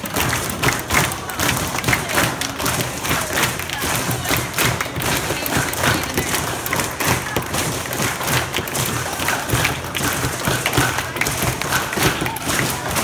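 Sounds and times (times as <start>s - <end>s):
people making percussive thumps: 0.0s - 13.0s.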